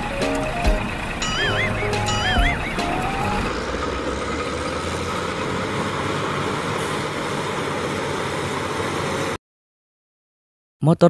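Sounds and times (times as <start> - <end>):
diesel engine running: 0.0 - 9.4.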